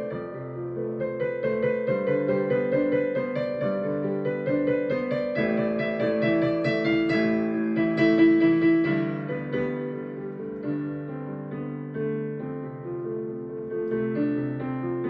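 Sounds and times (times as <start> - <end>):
slow gentle piano melody: 0.0 - 15.0.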